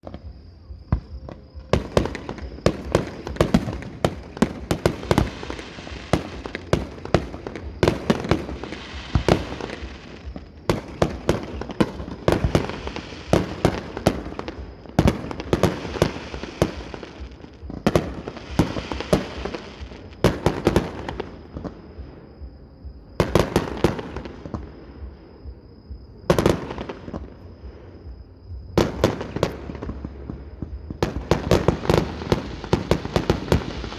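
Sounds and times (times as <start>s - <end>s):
firework crackling hiss: 0.0s - 22.4s, 28.8s - 33.9s.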